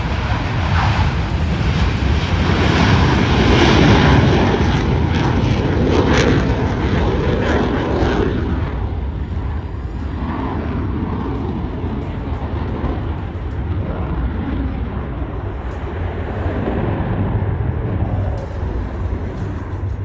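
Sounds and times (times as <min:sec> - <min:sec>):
jet roar passing over: 0:00.0 - 0:20.0.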